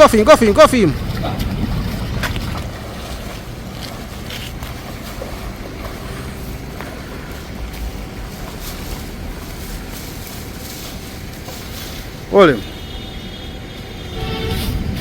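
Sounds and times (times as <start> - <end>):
low rumbling wind noise: 0.0 - 15.0.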